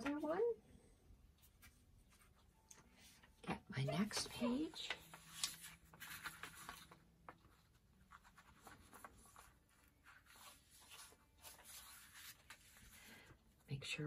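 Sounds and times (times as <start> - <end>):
paper and fabric rustling: 1.4 - 13.4.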